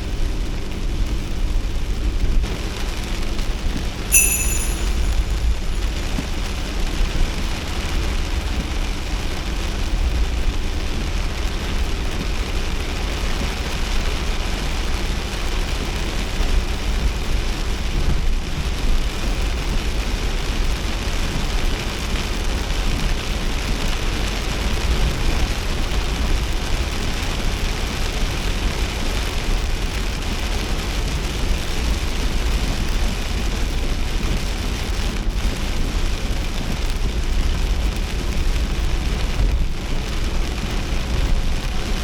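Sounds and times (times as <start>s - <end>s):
road and engine rumble: 0.0s - 4.0s, 5.6s - 42.0s
rain and wet tyres hiss: 0.0s - 4.1s, 6.0s - 42.0s.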